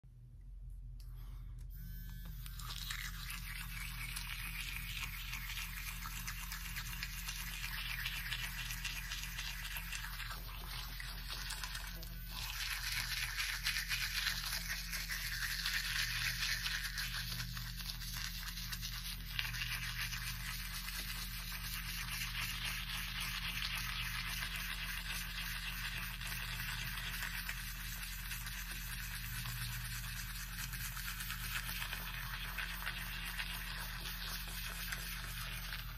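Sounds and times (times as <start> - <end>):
toothbrush scrubbing teeth: 2.2 - 35.9.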